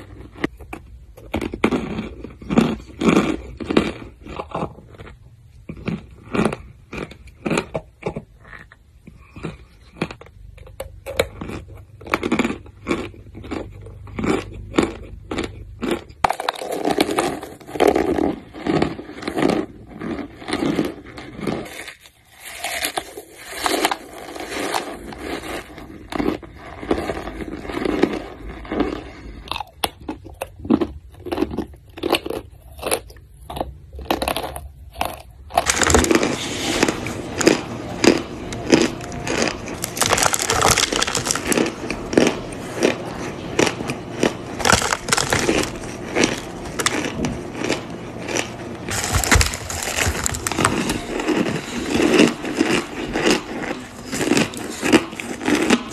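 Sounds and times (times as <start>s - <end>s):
mouth crunching and chewing: 0.0s - 55.9s.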